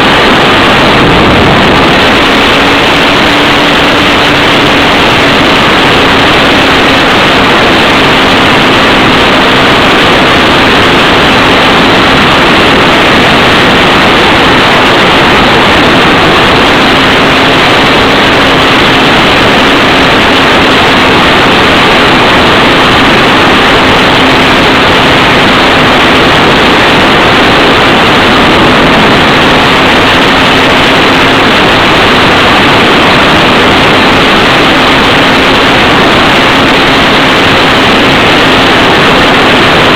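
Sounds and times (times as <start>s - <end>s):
model plane propeller and wind: 0.0s - 39.9s.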